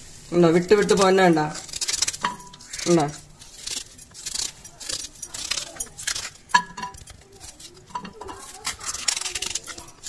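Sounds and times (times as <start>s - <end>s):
knife scraping coconut shell: 0.0s - 10.0s.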